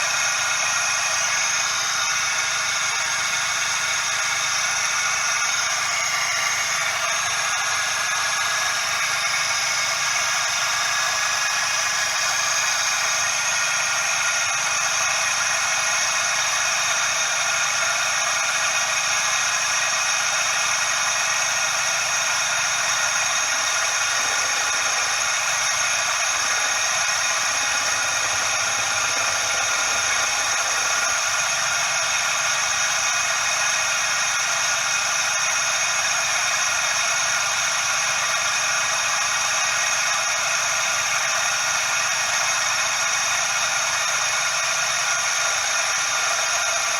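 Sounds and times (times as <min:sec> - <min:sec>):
engine running: 0:00.0 - 0:41.7
hissing pulley bearing whine: 0:00.0 - 0:46.9.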